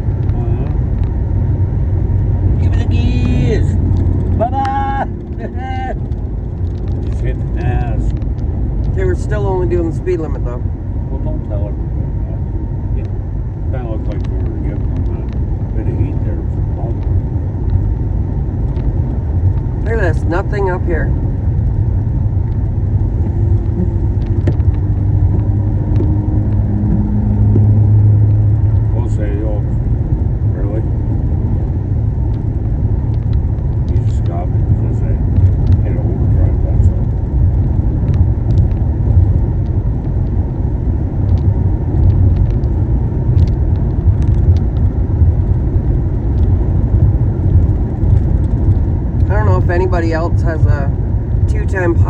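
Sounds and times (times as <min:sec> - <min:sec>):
faint engine hum: 0:00.0 - 0:52.0
in-cabin road rumble: 0:00.0 - 0:52.0.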